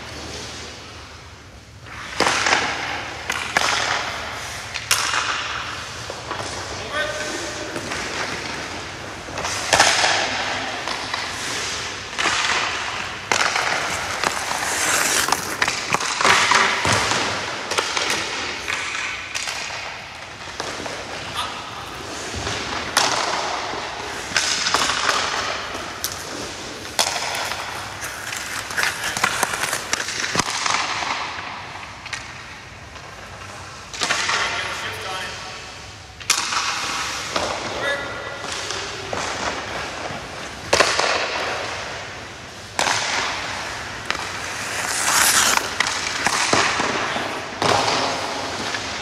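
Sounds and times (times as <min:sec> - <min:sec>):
puck and sticks cracking: 0:00.0 - 0:35.3, 0:36.1 - 0:49.0
skate blades scraping ice: 0:00.0 - 0:49.0.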